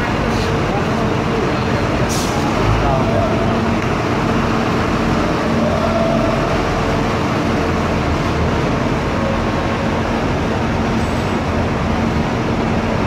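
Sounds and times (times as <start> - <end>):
coach diesel engines rumbling: 0.0 - 13.0.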